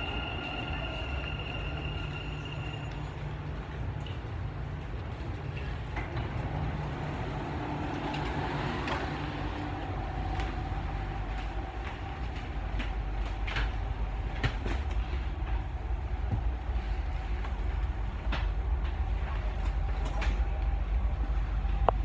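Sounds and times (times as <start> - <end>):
train low hum: 0.0 - 22.0.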